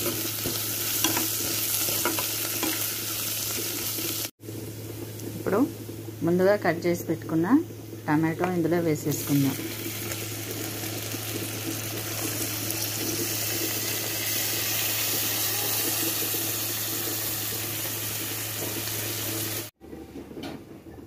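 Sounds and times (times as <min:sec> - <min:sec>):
tomatoes sizzling in hot oil: 0:00.0 - 0:19.8.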